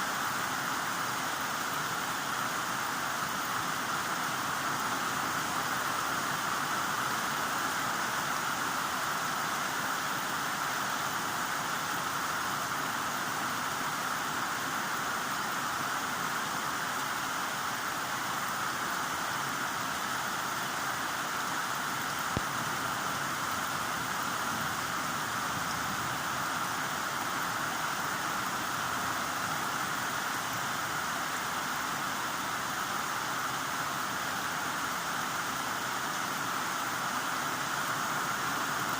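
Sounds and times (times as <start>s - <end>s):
heavy rain hiss: 0.0s - 38.9s.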